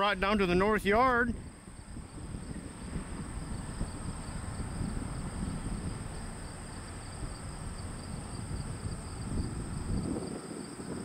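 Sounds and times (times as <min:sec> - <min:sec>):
insect chorus: 0:00.0 - 0:11.0
low rumbling background noise: 0:00.0 - 0:11.0.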